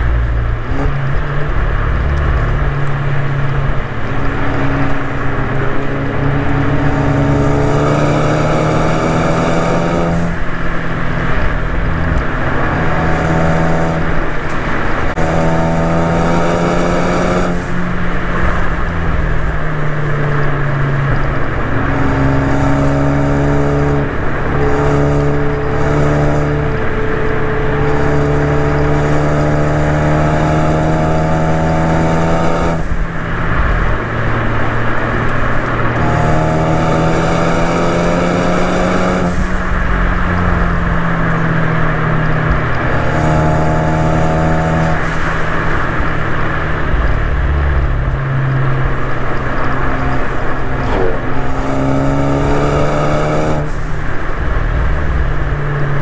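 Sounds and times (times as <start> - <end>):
car engine pulling hard: 0.0 - 56.0
low road drone: 0.0 - 56.0.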